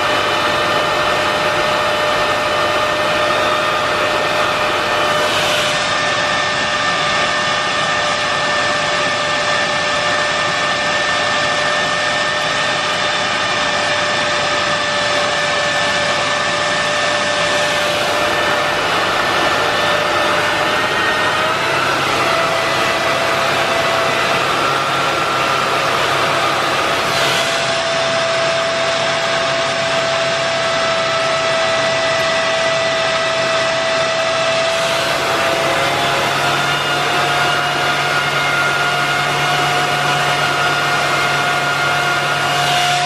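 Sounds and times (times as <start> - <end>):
vacuum cleaner motor whining: 0.0 - 43.0.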